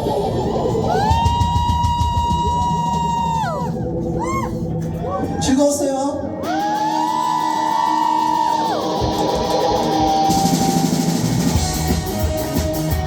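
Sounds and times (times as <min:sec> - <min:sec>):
bending electric guitar line: 0:00.0 - 0:13.0
drum kit: 0:00.7 - 0:05.1, 0:06.4 - 0:13.0.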